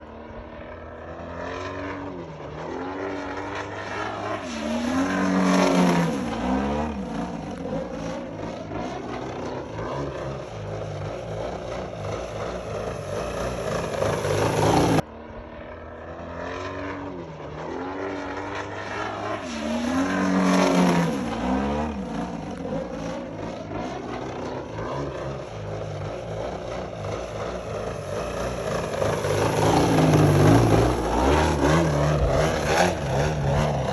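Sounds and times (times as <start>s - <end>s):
model plane engine and propeller: 0.0s - 33.9s.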